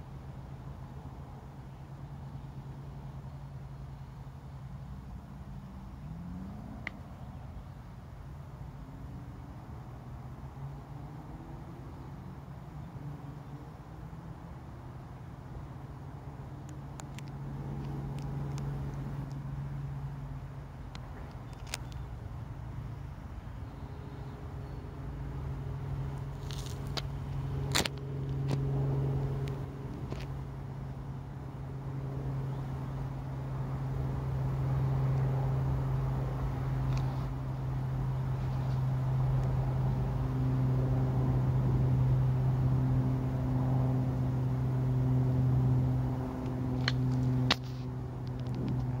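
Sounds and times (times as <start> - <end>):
low mechanical hum: 0.0 - 49.0.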